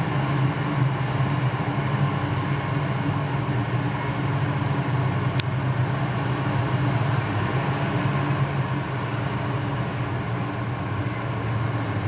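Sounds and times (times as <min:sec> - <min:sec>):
armoured vehicle engines droning: 0:00.0 - 0:12.0.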